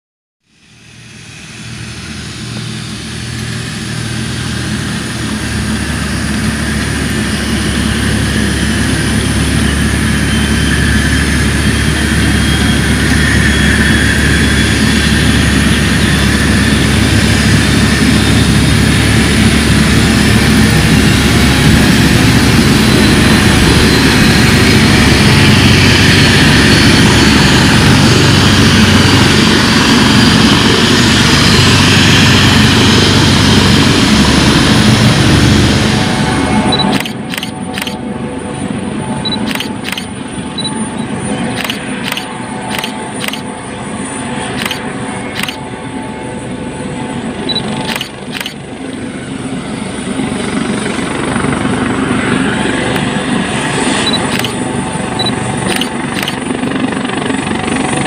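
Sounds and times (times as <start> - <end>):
high turbine whine: 0.4 - 58.0
low rotor drone: 0.4 - 58.0.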